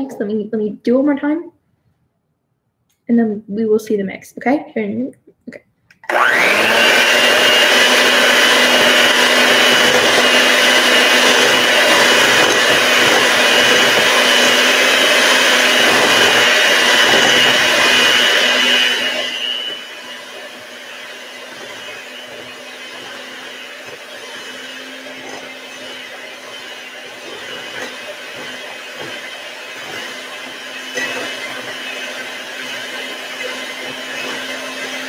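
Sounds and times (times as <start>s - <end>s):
electric hand mixer whirring: 6.0s - 35.0s.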